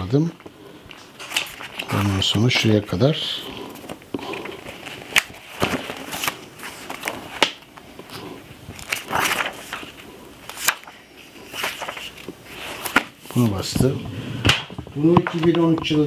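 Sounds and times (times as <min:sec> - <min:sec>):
book pages turning: 0:00.1 - 0:16.0.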